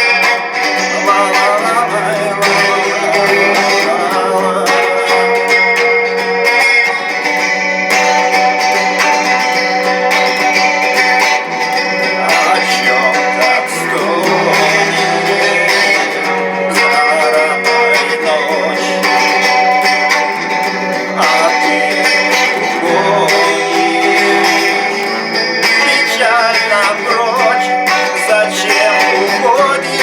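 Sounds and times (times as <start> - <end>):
guitar music: 0.0 - 30.0.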